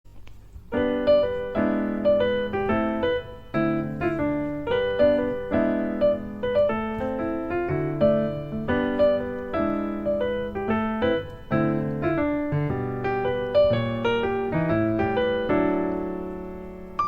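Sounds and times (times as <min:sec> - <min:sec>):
gentle piano melody: 0:00.1 - 0:17.0.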